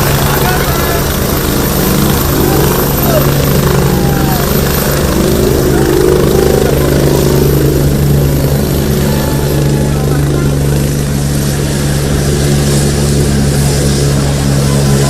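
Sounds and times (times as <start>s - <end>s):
faint voices: 0.0s - 15.0s
loud throbbing engine drone: 0.0s - 15.0s.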